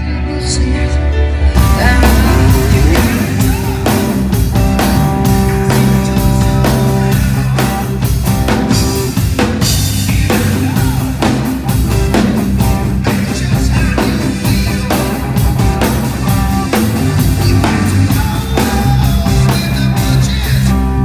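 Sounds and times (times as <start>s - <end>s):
bass guitar: 0.0s - 21.0s
electric guitar: 0.0s - 21.0s
drum kit with rimshots: 1.5s - 21.0s.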